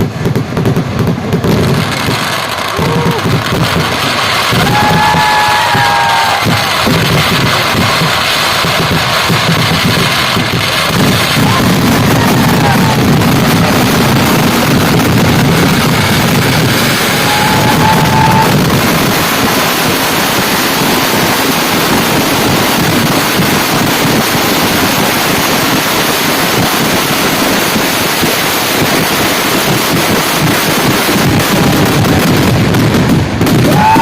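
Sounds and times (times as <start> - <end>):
fireworks barrage: 0.0 - 34.0.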